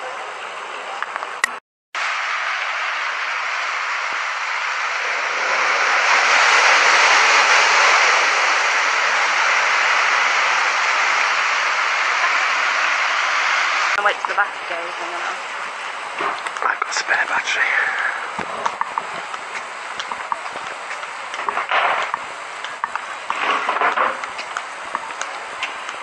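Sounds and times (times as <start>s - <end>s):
water rushing and splashing: 0.6s - 26.0s.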